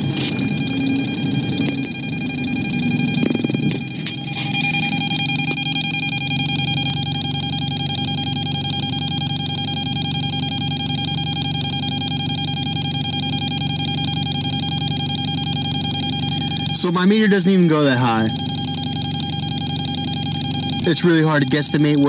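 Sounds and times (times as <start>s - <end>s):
meter alarm high-pitched tone: 0.0s - 22.0s.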